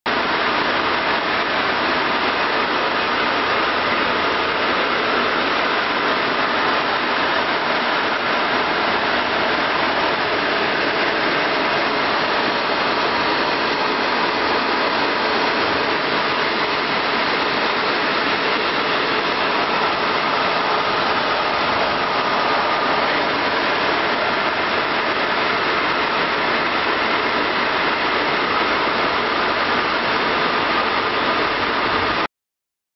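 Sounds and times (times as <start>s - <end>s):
blower fan rushing air: 0.1s - 32.3s.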